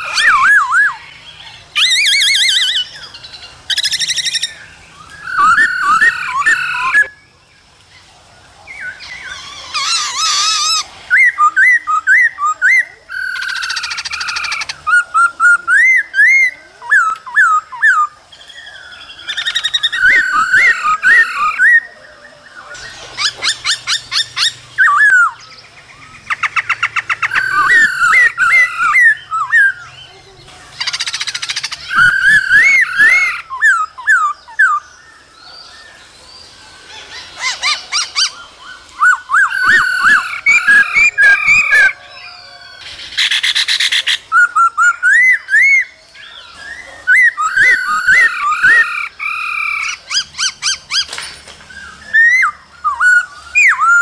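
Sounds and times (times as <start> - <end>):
bird singing whistled phrases: 0.0 - 7.3, 8.7 - 35.6, 37.2 - 51.1, 51.8 - 54.0
buzzy rattling bird calls: 0.0 - 54.0.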